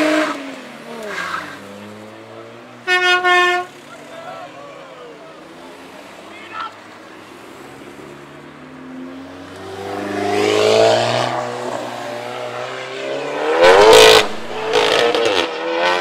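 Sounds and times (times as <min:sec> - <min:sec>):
cars accelerating past: 0:00.0 - 0:16.0.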